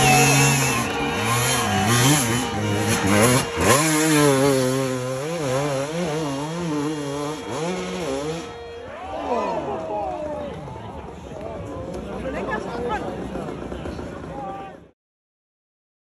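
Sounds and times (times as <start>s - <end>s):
dirt bike engines revving: 0.0s - 14.7s.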